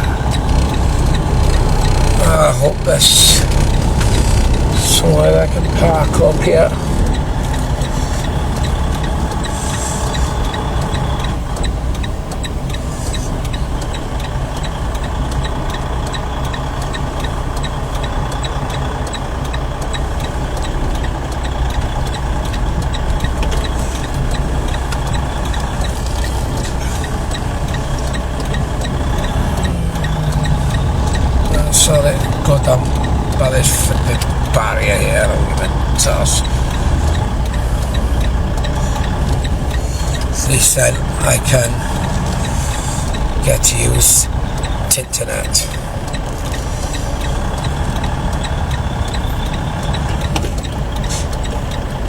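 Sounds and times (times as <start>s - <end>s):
faint regular ticking: 0.0s - 52.0s
truck diesel engine running: 0.0s - 52.0s.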